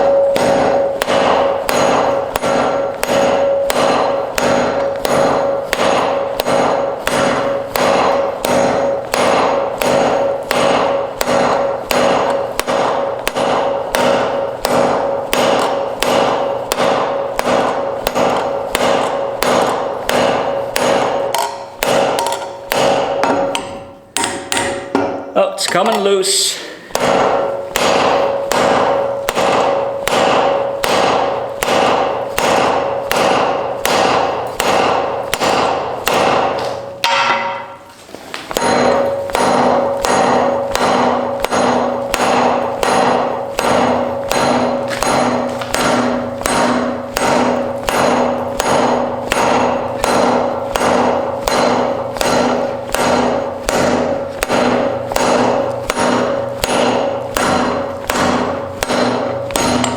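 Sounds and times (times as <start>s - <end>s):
hammer ringing on anvil: 0.0s - 37.9s, 38.5s - 59.9s.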